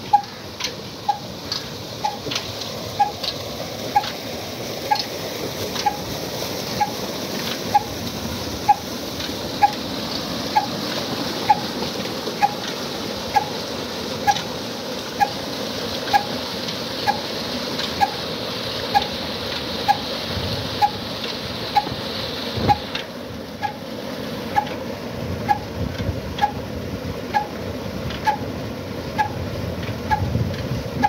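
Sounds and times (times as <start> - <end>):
diesel engine ticking: 0.0 - 31.0
water pouring into a tank: 0.0 - 31.0.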